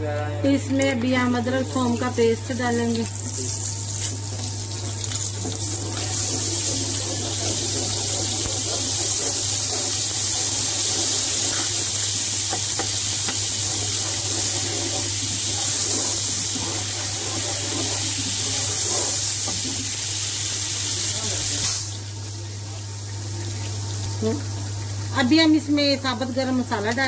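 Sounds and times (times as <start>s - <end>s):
paste sizzling in hot oil: 1.3s - 25.4s.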